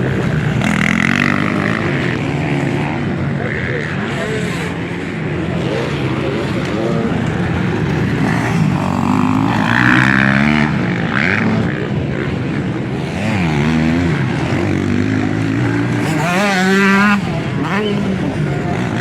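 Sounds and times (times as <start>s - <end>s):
motocross bikes revving: 0.0s - 19.0s.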